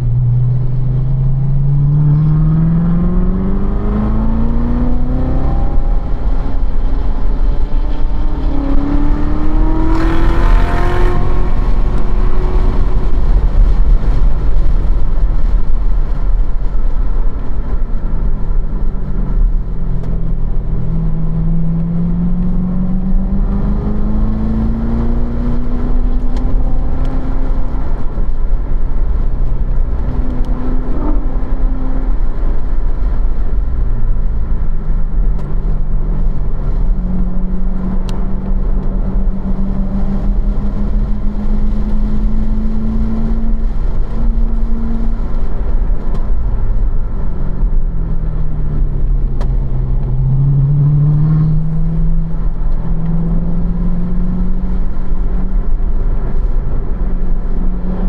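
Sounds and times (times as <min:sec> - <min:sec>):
car engine revving in cabin: 0:00.0 - 0:58.0
wind noise: 0:00.0 - 0:58.0.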